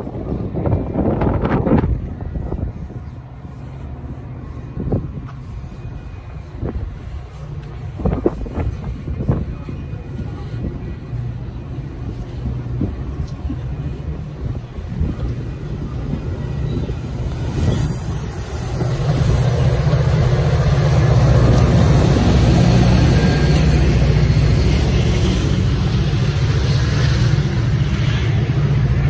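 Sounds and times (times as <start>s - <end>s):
diesel locomotive engine rumble: 0.0s - 29.0s
passenger train moving: 0.0s - 29.0s.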